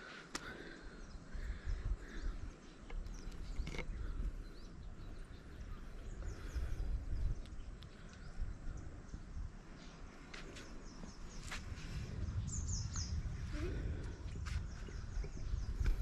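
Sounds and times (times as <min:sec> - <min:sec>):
wind rumbling on microphone: 0:00.6 - 0:16.0.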